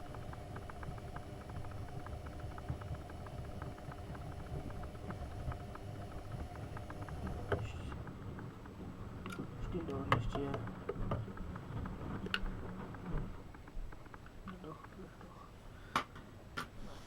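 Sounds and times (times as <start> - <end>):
washing machine motor hum: 0.0 - 15.7
light irregular clicks: 0.1 - 16.7.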